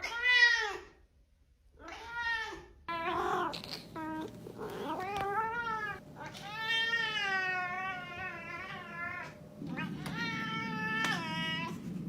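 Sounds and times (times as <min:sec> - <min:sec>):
cat yowling: 0:01.8 - 0:11.8.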